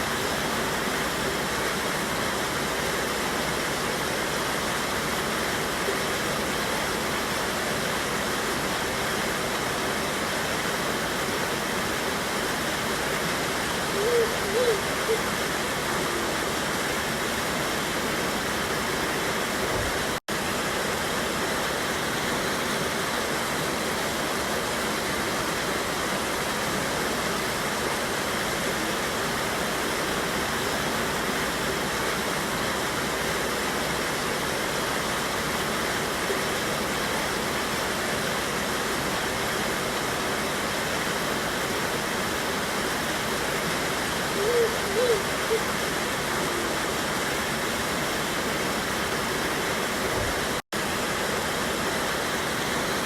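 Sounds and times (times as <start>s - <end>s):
water rushing over waterfall: 0.0s - 53.0s.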